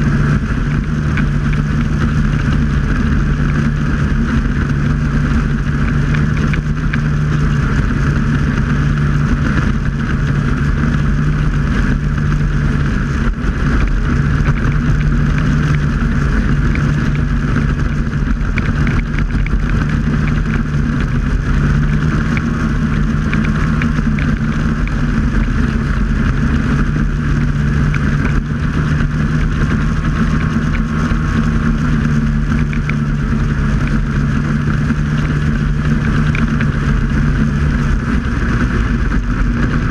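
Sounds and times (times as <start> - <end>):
snowmobile engine droning: 0.0 - 39.9.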